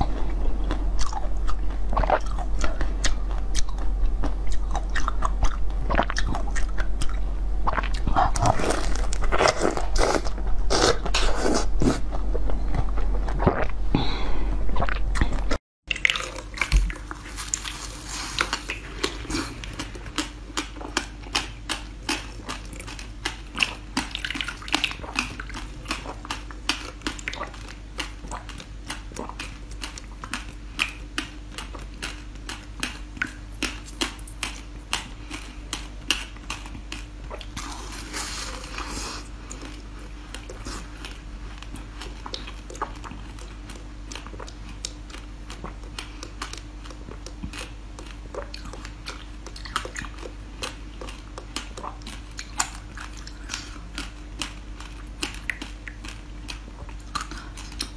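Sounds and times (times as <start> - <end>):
person eating soft jelly: 0.0 - 57.9.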